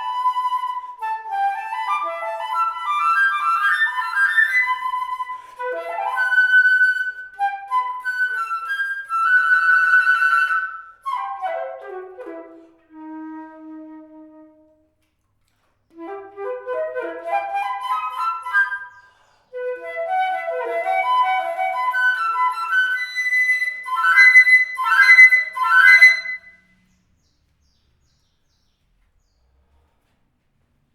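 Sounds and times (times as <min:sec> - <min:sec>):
solo flute playing: 0:00.0 - 0:14.9, 0:15.9 - 0:26.7.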